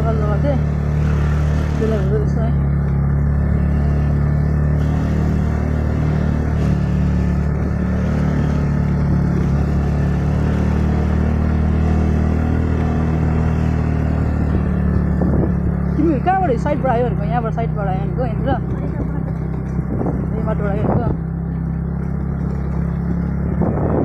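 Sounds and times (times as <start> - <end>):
motor scooter engine droning: 0.0 - 24.0.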